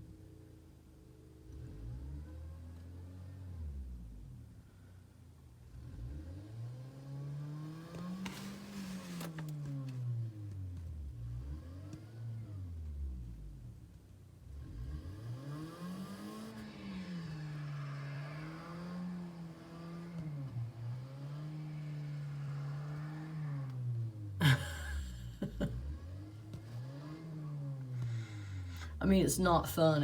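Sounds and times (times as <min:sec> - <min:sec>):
car engine revving: 0:01.4 - 0:30.0.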